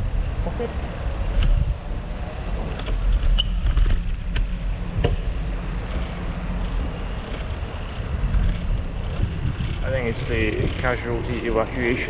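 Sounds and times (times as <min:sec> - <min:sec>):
wind rumble on microphone: 0:00.0 - 0:12.0
bike rattling clicks: 0:01.3 - 0:01.8, 0:02.6 - 0:11.9.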